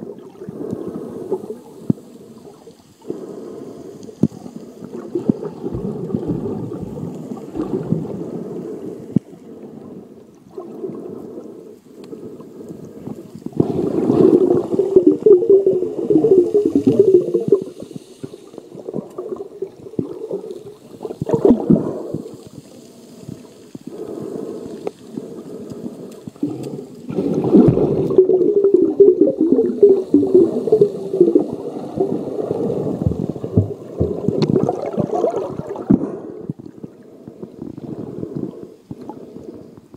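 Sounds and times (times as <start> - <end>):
underwater churning and gurgling: 0.0 - 39.9.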